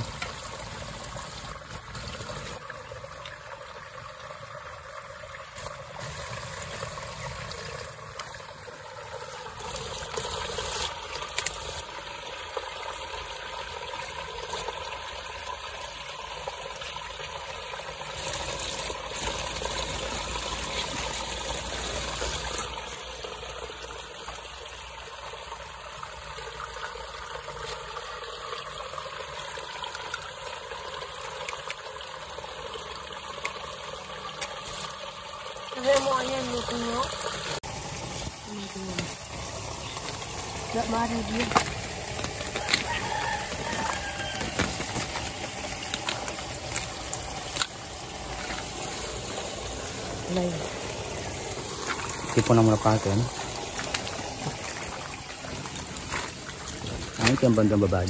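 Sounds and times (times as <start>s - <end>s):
trickle of running water: 0.0s - 58.0s.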